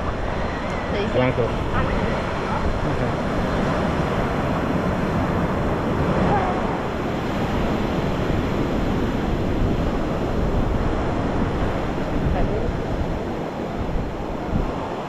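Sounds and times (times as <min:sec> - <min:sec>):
ocean surf washing on beach: 0:00.0 - 0:15.0
wind rumbling on microphone: 0:00.0 - 0:15.0.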